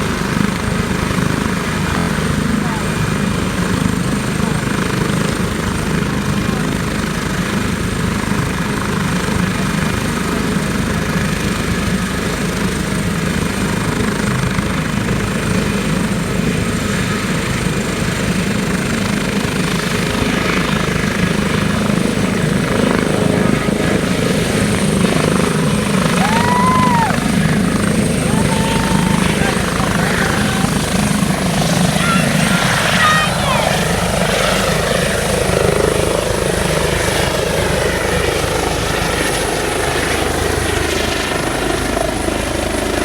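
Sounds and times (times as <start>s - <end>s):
helicopter rotor and turbine whir: 0.0s - 43.0s.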